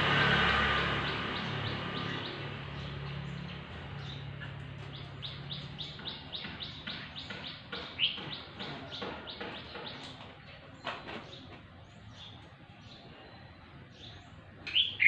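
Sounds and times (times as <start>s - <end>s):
bird singing falling chirps: 0.6s - 15.0s.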